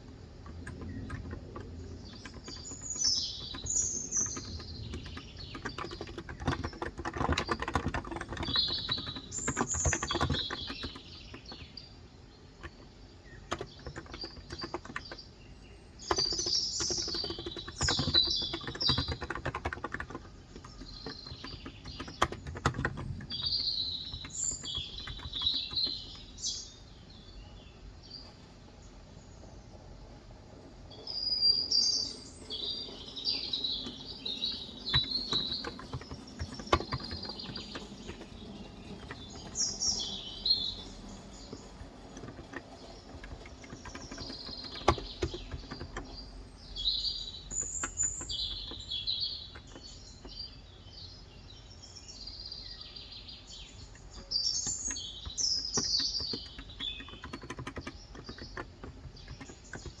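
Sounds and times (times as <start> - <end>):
birds chirping and twittering: 0.0 - 60.0
faint background hum: 0.0 - 60.0.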